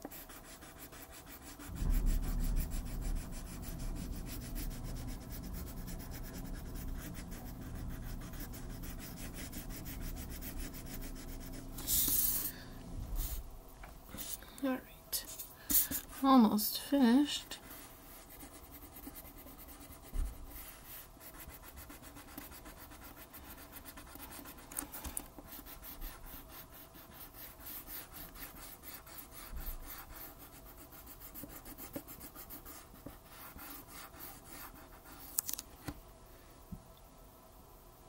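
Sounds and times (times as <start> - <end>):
crayon scribbling on paper: 0.0 - 12.4, 15.2 - 35.4.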